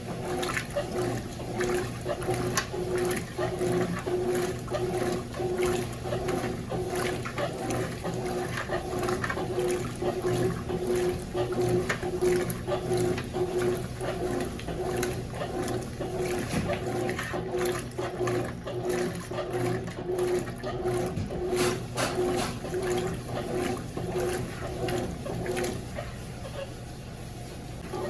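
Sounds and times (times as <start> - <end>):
water sloshing: 0.0 - 26.7
washing machine motor pulsing: 0.0 - 28.0.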